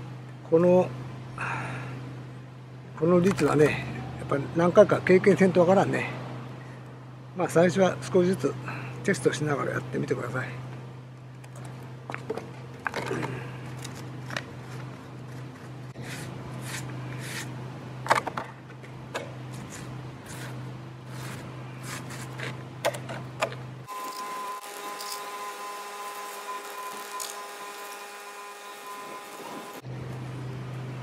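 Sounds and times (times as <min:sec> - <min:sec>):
steady multi-tone whine: 0:00.0 - 0:31.0.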